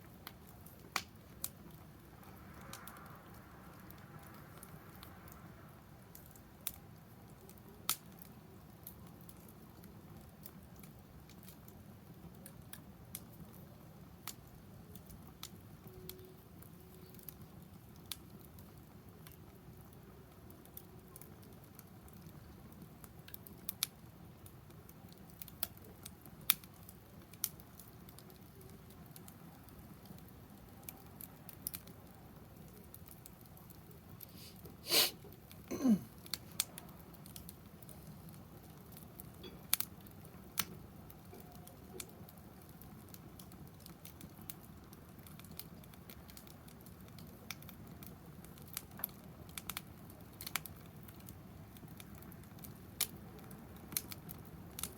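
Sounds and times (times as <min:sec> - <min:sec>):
wood fire crackling: 0:00.0 - 0:54.9
sharp pops of fire: 0:00.1 - 0:54.9.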